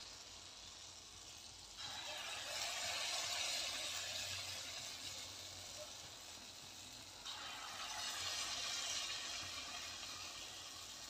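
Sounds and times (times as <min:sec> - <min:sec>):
fritters sizzling in hot oil: 0:00.0 - 0:11.0.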